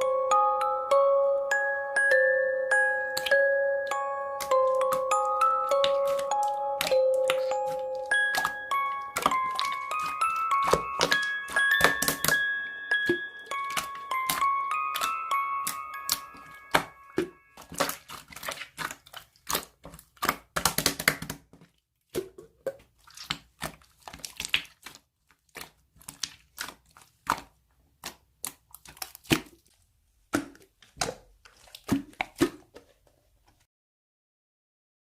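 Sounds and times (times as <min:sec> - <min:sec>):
slime being squished: 0:03.1 - 0:32.8.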